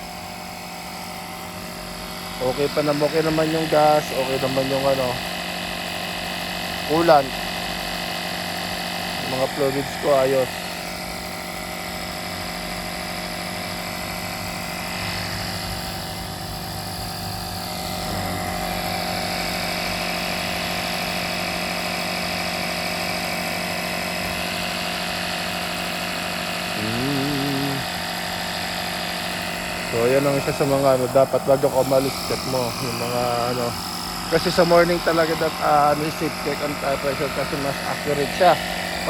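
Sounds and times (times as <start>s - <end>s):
tire inflator compressor running: 0.0s - 39.0s.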